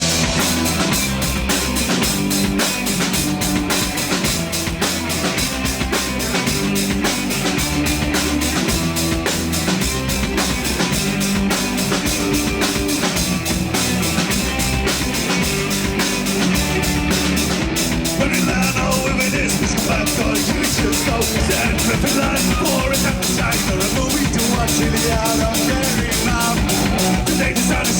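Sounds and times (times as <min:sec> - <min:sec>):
drum and cymbal strikes: 0:00.0 - 0:27.9
rock band playing: 0:00.0 - 0:27.9.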